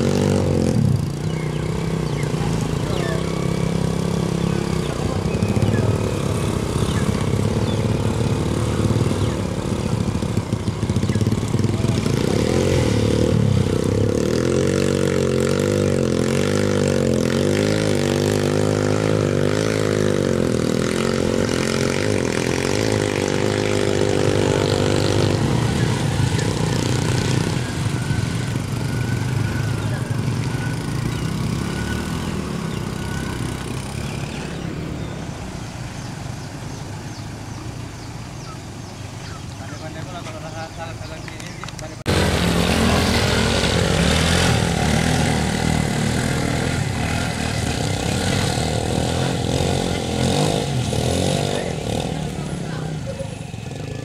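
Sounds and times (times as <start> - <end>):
engine revving: 0.0 - 37.2, 39.2 - 54.0
motorcycle engines running: 0.0 - 54.0
truck engine running: 0.0 - 54.0.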